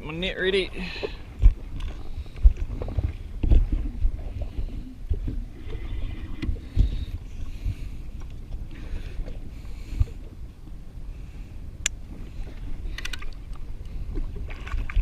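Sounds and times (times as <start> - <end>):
water slapping against hull: 0.0 - 10.4, 11.8 - 15.0
wind on microphone: 0.0 - 15.0.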